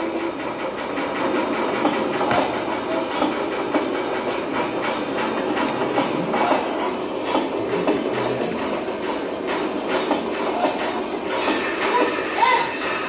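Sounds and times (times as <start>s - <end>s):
train wheels clattering on track: 0.0s - 13.0s.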